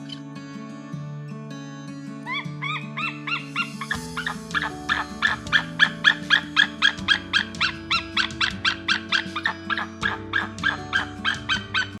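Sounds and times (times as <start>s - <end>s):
background music with sustained chords: 0.0s - 12.0s
animal high-pitched calls: 2.3s - 12.0s.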